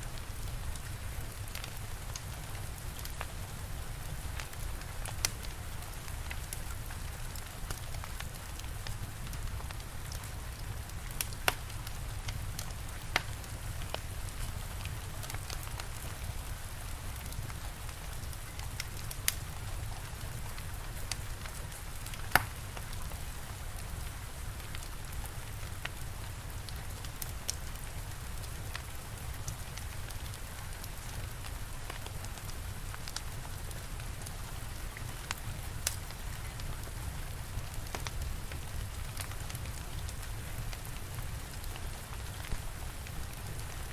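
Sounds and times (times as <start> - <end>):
steady rain: 0.0 - 43.9
wood fire crackling: 0.1 - 43.9.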